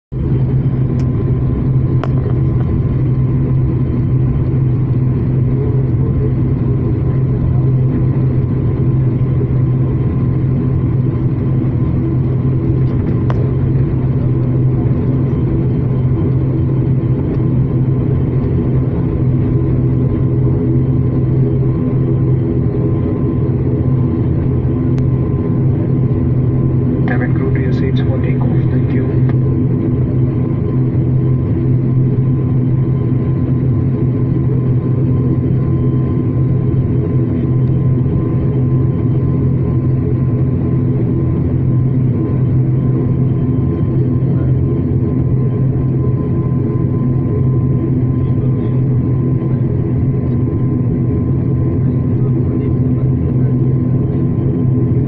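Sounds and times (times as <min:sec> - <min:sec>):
turboprop engines droning: 0:00.1 - 0:55.0.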